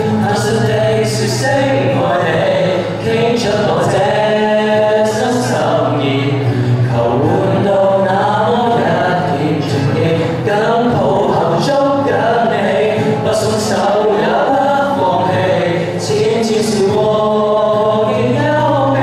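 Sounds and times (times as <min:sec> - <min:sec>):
acoustic guitar: 0:00.0 - 0:19.0
boys singing in harmony: 0:00.0 - 0:19.0.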